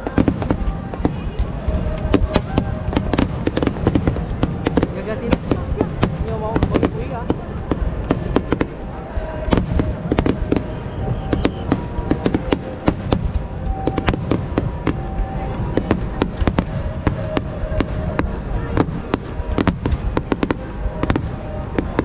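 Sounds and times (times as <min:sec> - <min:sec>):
fireworks cracking and popping: 0:00.0 - 0:22.0
low rumble of booms: 0:00.0 - 0:22.0.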